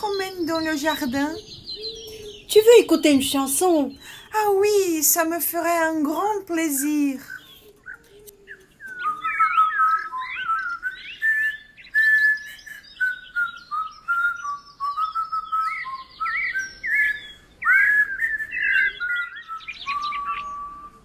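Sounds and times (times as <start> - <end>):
songbird singing: 0.0 - 21.0.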